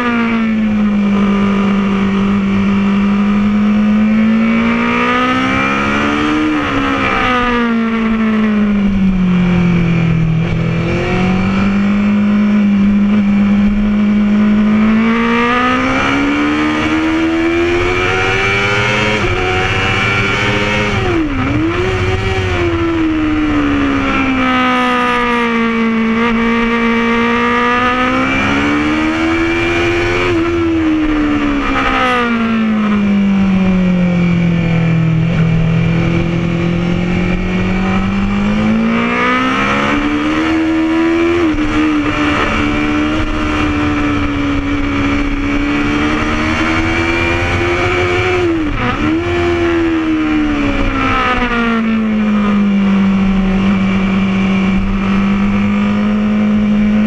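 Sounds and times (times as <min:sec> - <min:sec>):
motorcycle engine revving: 0:00.0 - 0:57.0
wind noise: 0:00.0 - 0:57.0.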